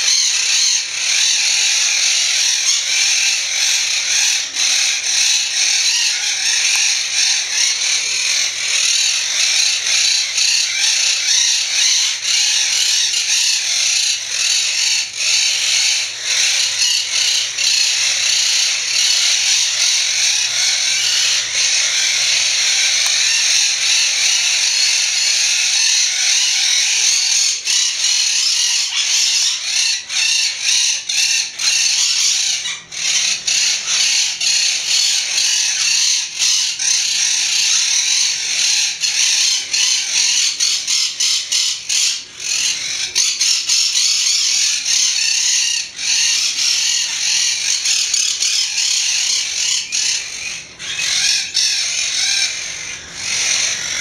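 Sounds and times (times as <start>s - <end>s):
parakeets squawking: 0.0s - 54.0s.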